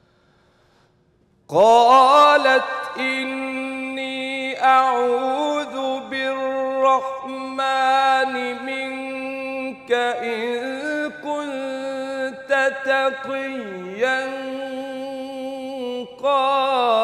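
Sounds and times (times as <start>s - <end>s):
man chanting melodically: 1.5s - 17.0s.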